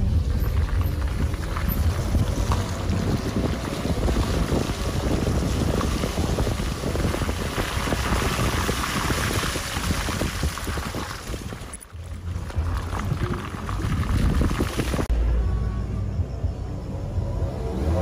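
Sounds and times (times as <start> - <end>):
wind rushing over microphone: 0.0 - 15.1
car tyres rumbling on dirt road: 0.0 - 18.0.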